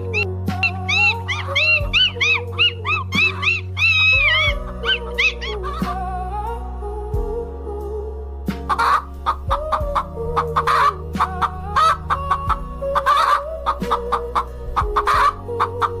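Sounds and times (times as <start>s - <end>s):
chicken clucking: 0.0s - 5.9s, 8.7s - 16.0s
background music with low drone: 0.0s - 16.0s.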